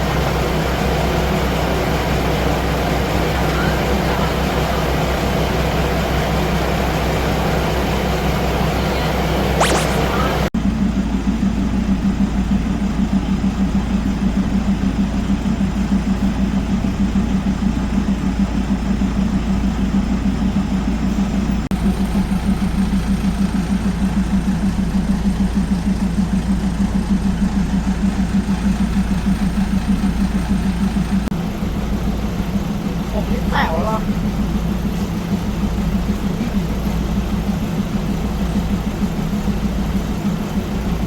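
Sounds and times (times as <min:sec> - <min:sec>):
diesel train engine idling: 0:00.0 - 0:09.5, 0:10.6 - 0:41.0.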